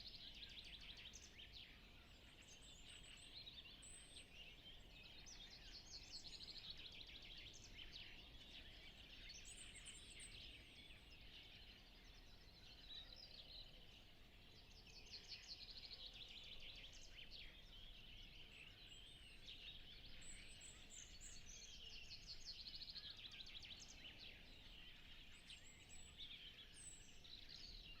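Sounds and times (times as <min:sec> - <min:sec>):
songbirds singing: 0:00.0 - 0:28.0.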